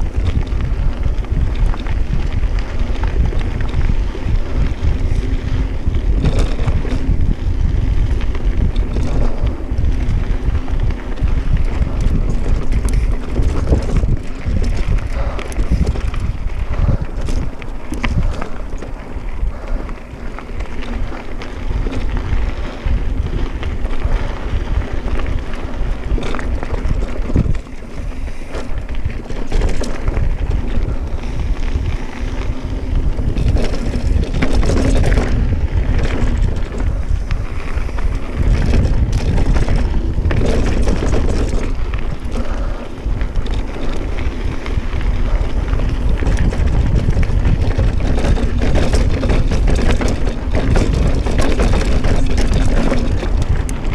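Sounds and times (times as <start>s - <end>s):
bike rattling clicks and knocks: 0.0s - 53.9s
tyres rumbling: 0.0s - 53.9s
wind buffeting microphone: 0.0s - 53.9s.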